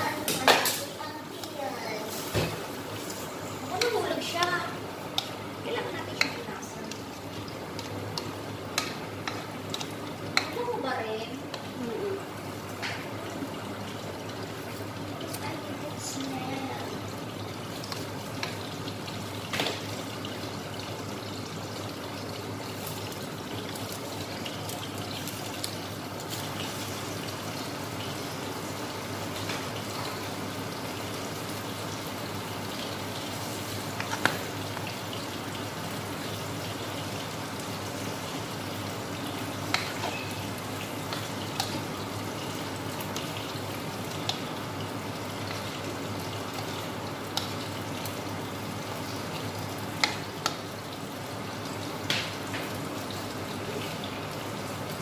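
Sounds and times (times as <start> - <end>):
vegetables simmering in a wok: 0.0 - 55.0.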